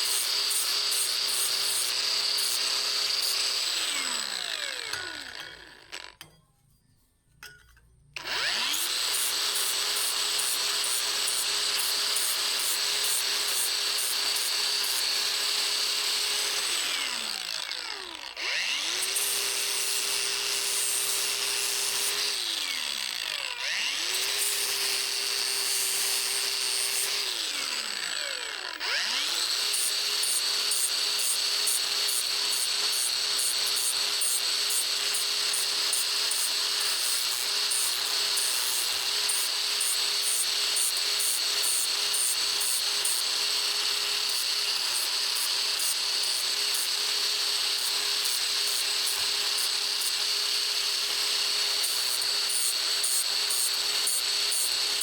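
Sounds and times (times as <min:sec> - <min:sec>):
power tool grinding: 0:00.0 - 0:06.4, 0:08.1 - 0:55.0.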